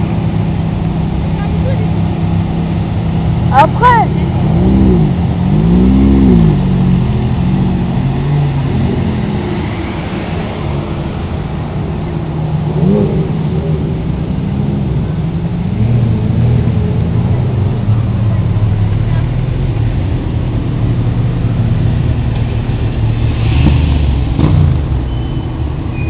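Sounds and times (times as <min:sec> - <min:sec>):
sports cars driving past: 0:00.0 - 0:26.0.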